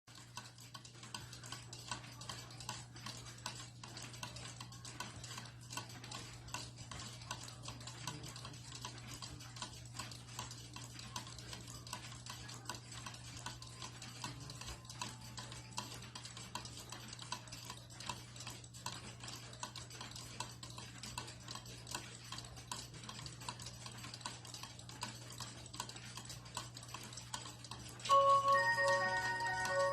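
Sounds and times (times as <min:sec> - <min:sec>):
cuckoo clock ticking: 0:00.1 - 0:29.9.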